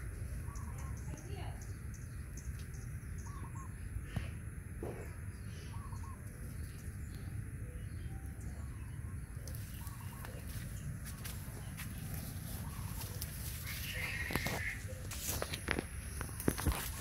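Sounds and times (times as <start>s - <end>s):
steady low rumble: 0.0s - 17.0s
bird calling: 0.3s - 4.2s, 4.8s - 17.0s.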